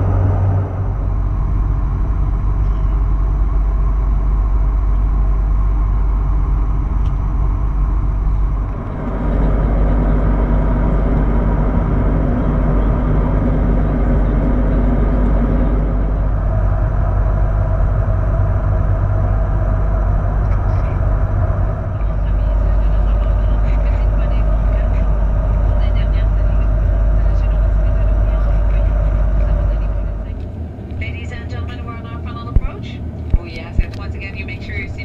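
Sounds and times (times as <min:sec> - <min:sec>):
airflow rumble: 0:00.0 - 0:35.0
jet engine drone: 0:00.0 - 0:35.0.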